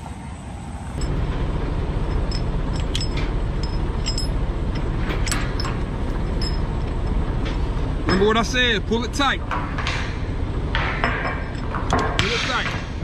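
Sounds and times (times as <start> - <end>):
steady low rumble: 0.0 - 13.0
metal chain clinking and rattling: 1.0 - 13.0.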